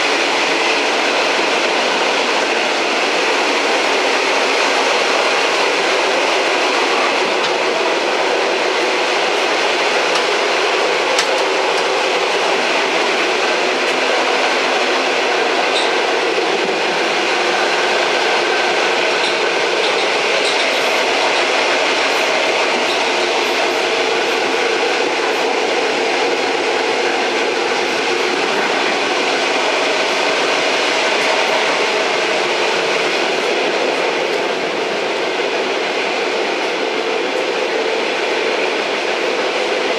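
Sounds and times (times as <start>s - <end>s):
train rumbling and rattling: 0.0s - 39.9s.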